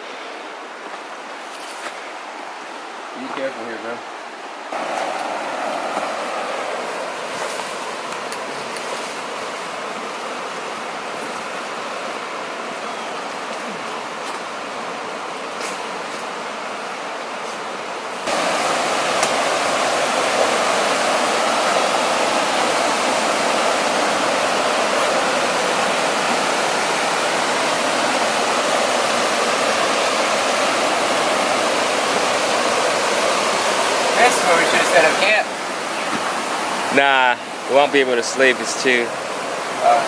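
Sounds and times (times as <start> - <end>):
river rushing over rapids: 2.0 - 40.0.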